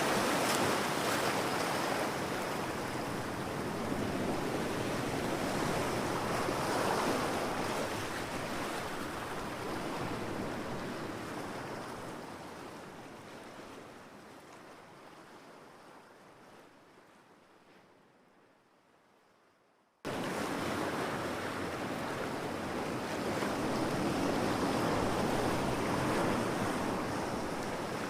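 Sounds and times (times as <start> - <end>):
ocean waves breaking on beach: 0.0 - 15.0, 20.1 - 28.0.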